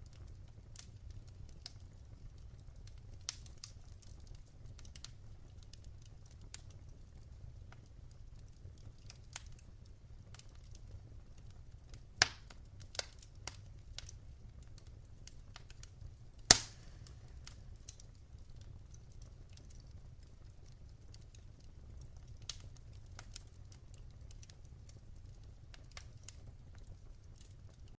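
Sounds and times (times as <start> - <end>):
loud pops from fire: 0.0 - 28.0
wood fire crackling: 0.0 - 28.0.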